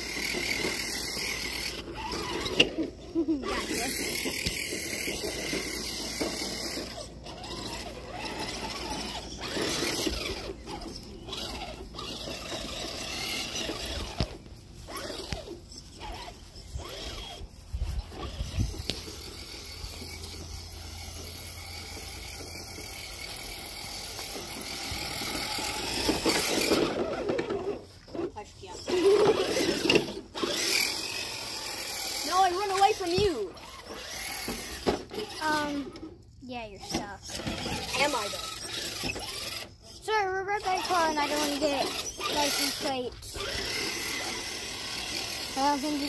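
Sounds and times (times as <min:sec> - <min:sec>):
toy car electric motor whirring: 0:00.0 - 0:46.0.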